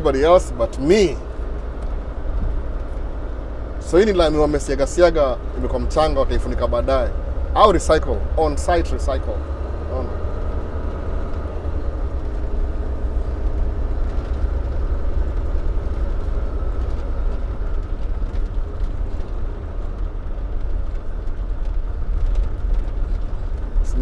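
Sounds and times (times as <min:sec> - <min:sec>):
faint engine hum: 0:00.0 - 0:24.0
vehicle driving over asphalt millings: 0:00.0 - 0:24.0.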